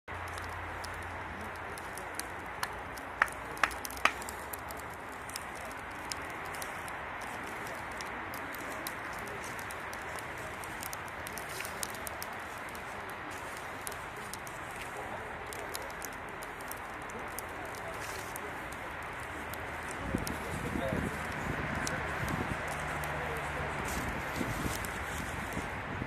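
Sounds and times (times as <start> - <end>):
campfire crackling and popping: 0.1 - 26.0
loud fire snaps: 0.1 - 26.0.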